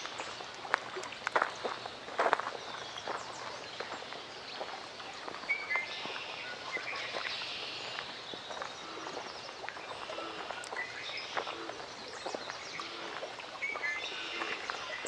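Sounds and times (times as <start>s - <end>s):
small birds chirping: 0.0s - 15.0s
steady outdoor hiss: 0.0s - 15.0s.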